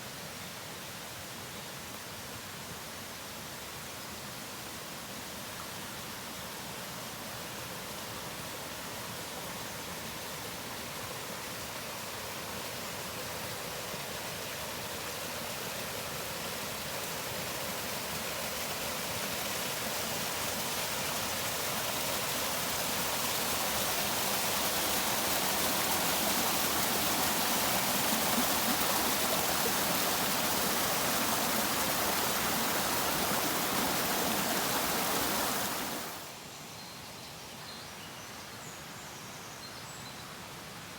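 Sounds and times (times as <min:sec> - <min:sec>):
stream water rushing: 0:00.0 - 0:36.5.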